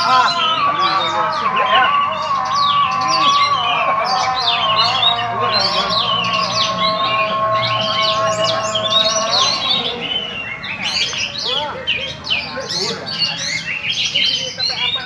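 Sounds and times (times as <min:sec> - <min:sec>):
bird singing varied chirps: 0:00.0 - 0:15.0.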